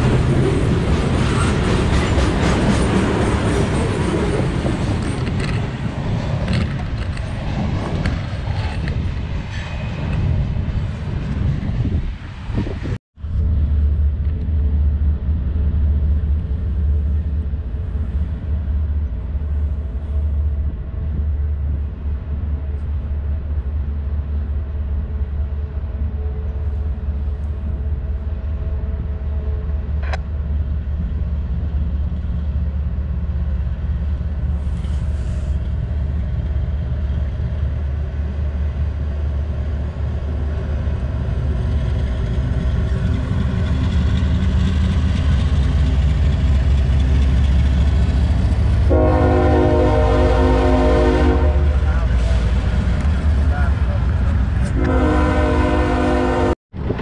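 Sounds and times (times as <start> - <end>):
freight train locomotive rumble: 0.0 - 57.0.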